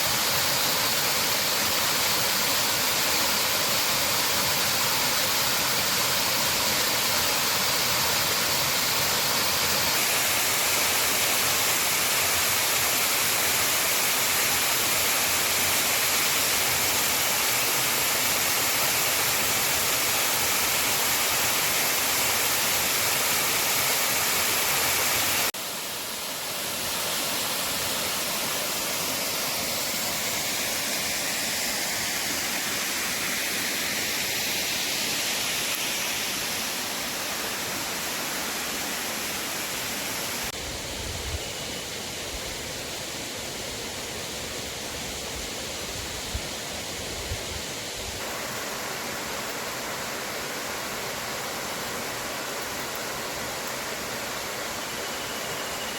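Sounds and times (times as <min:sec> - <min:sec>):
waterfall rushing: 0:00.0 - 0:40.6, 0:42.3 - 0:55.9.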